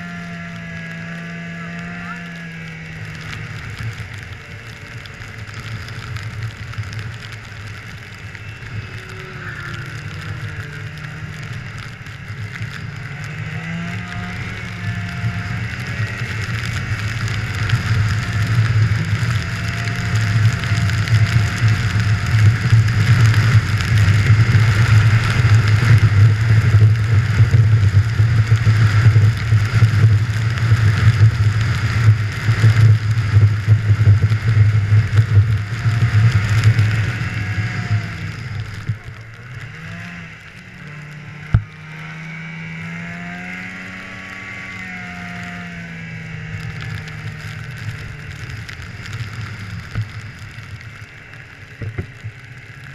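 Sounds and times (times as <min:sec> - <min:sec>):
snowmobile engine running: 0:00.0 - 0:52.9
track and wind hiss: 0:00.0 - 0:52.9.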